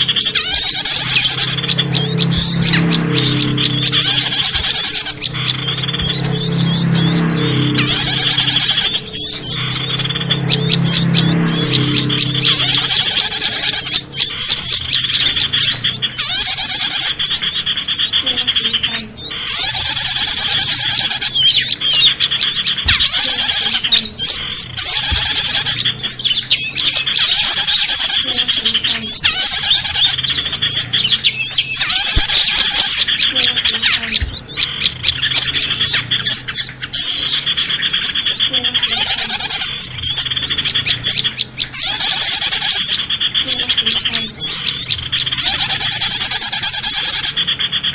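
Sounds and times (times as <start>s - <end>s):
many small birds chirping: 0.0s - 47.9s.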